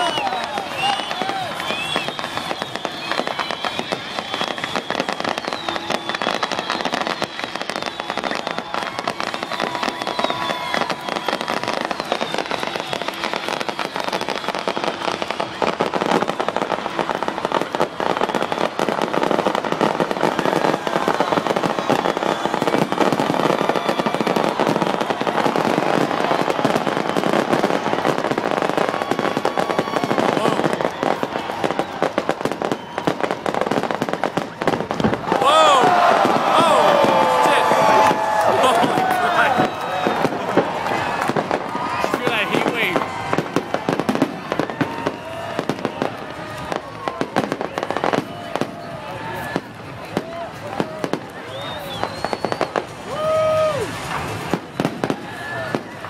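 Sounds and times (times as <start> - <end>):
fireworks crackling and bursting: 0.0 - 56.0
high fireworks whistles: 0.0 - 56.0.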